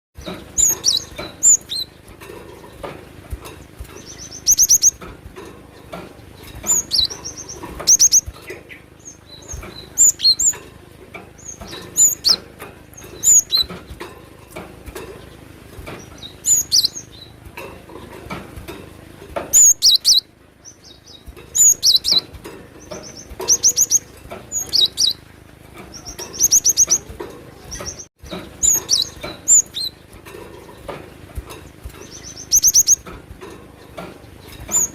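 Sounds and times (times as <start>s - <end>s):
bird singing metallic notes: 0.2s - 2.9s, 3.5s - 18.2s, 19.5s - 34.9s.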